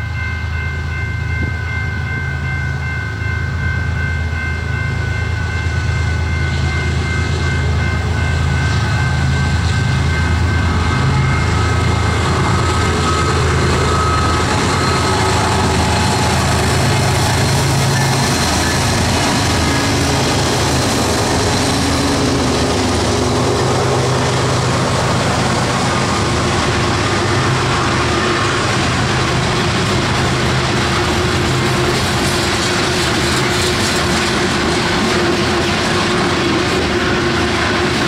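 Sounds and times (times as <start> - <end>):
locomotive engine humming: 0.0 - 38.0
train wheels clattering on rail: 6.4 - 38.0.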